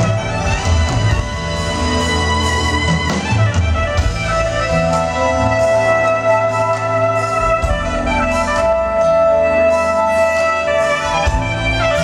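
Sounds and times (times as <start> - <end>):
drum kit with cymbals: 0.0 - 12.0
soprano saxophone melody: 0.0 - 12.0.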